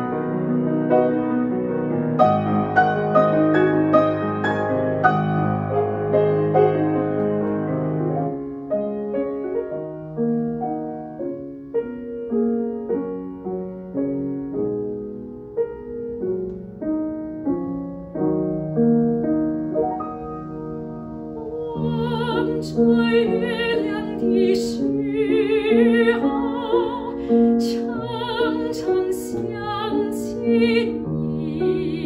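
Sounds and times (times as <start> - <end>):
slow grand piano melody: 0.0 - 32.0.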